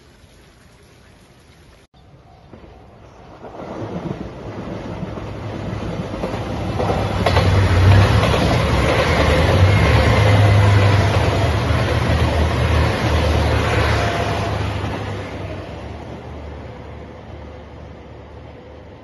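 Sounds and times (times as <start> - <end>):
train wheels on rails: 2.4 - 19.0
diesel train engine drone: 2.5 - 19.0.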